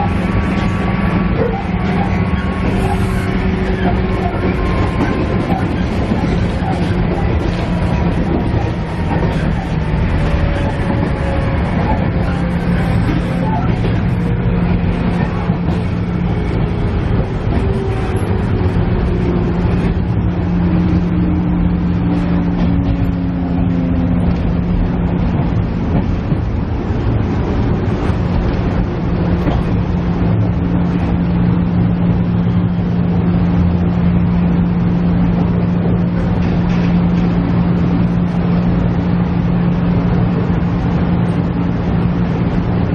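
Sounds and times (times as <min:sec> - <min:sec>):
descending whining tone: 0:00.0 - 0:39.9
railcar engine hum: 0:00.0 - 0:42.9
wheels rumbling: 0:00.0 - 0:42.9.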